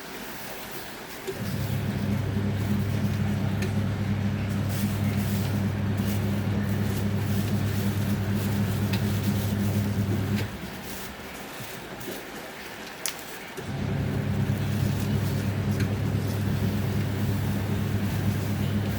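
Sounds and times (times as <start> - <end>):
washing machine motor hum: 1.3 - 12.2, 13.6 - 18.9.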